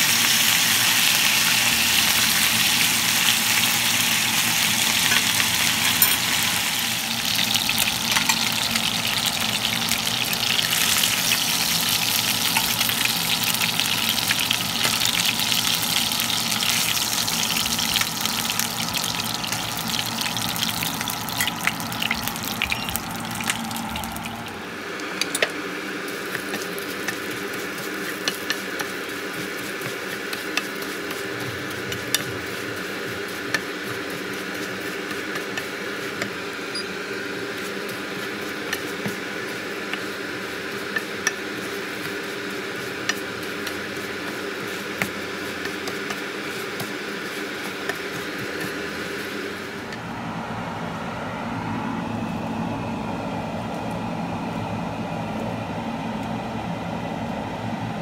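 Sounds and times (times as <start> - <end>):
rice sizzling in skillet: 0.0 - 49.8.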